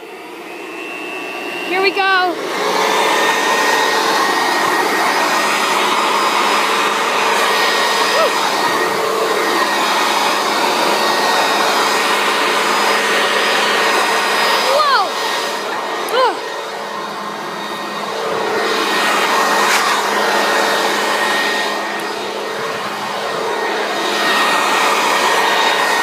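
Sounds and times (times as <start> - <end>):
leaf blower running: 0.0 - 26.0.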